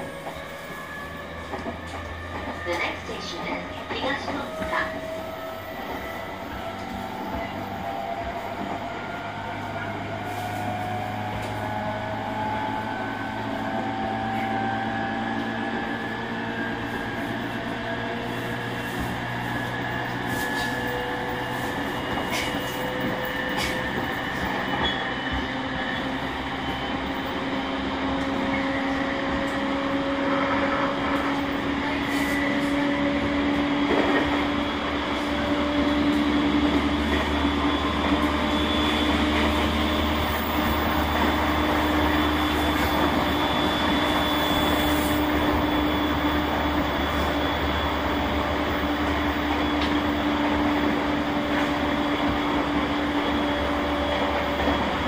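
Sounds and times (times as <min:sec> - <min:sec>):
electric train motor whine: 0:00.0 - 0:55.0
wheels rumbling on rails: 0:00.0 - 0:55.0.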